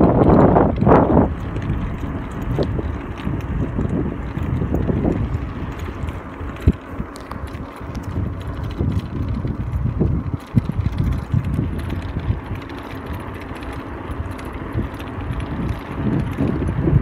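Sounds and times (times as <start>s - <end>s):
bicycle knocks and rattles: 0.0s - 17.0s
tyres rolling on asphalt: 0.0s - 17.0s
wind buffeting microphone: 0.0s - 17.0s.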